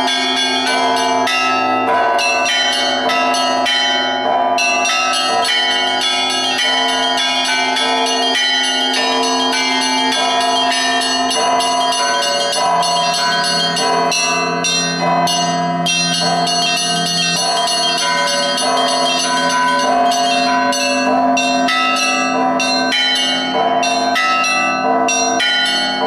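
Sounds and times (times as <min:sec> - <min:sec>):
deep bell tone: 0:00.0 - 0:26.0
large bells ringing: 0:00.0 - 0:26.0.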